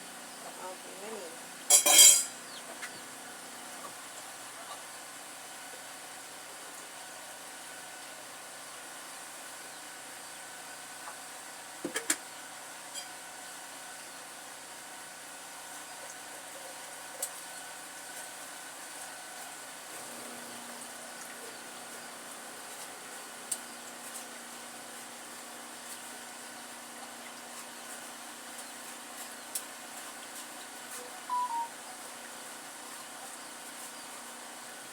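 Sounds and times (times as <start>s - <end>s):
kitchen background hiss: 0.0s - 34.9s.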